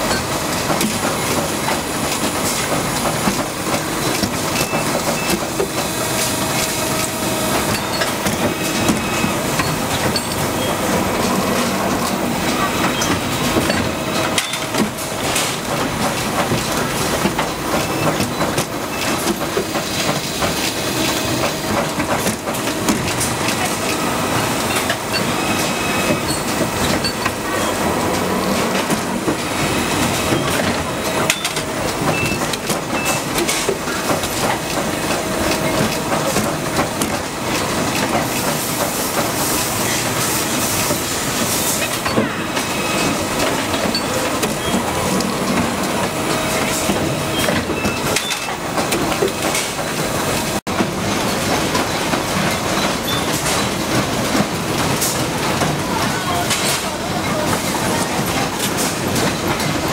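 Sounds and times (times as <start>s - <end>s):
factory machinery clattering: 0.0s - 59.9s.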